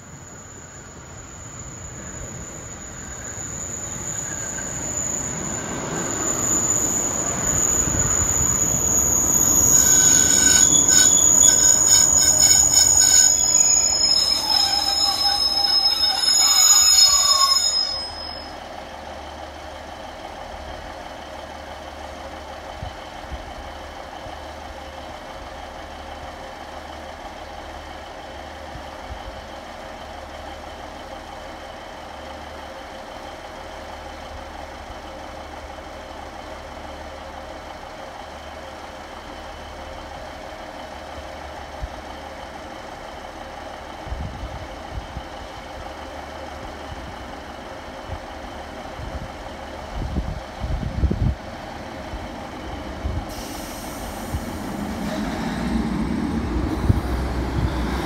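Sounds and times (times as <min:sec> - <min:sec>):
brakes and wheels squealing: 0:00.0 - 0:58.0
diesel train approaching: 0:00.0 - 0:58.0.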